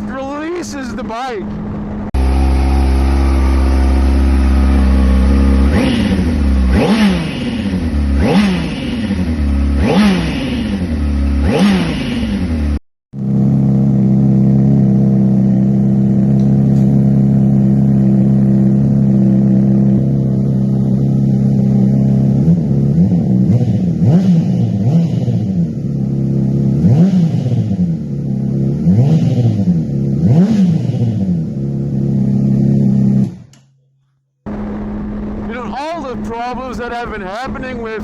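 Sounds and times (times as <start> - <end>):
motorcycle engine idling and revving: 0.0 - 33.8, 34.5 - 38.0.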